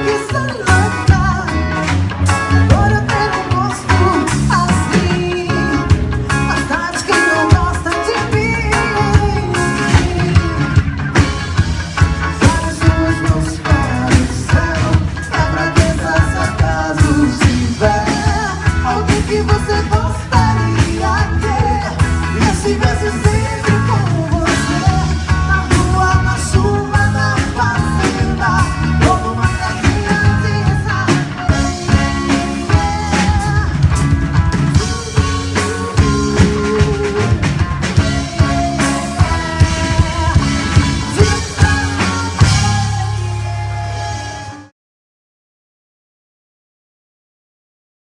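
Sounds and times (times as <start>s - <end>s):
drum kit beat: 0.0s - 44.6s
band playing upbeat dance song: 0.0s - 44.7s.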